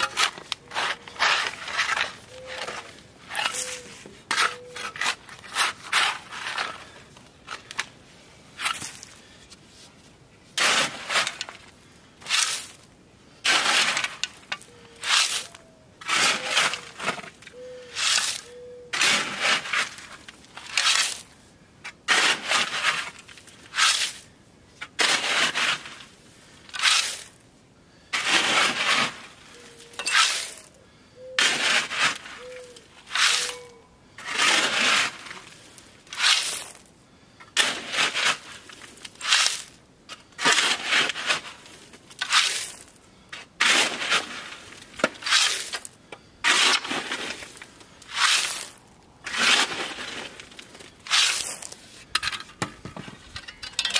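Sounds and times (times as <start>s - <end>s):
gravel being raked: 0.0s - 27.4s, 28.2s - 36.9s, 37.5s - 52.3s.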